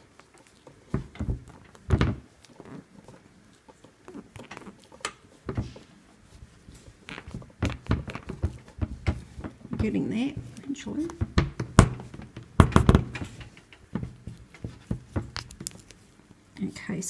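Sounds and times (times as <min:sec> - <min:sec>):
knocks and rubbing on rope: 0:00.0 - 0:16.2.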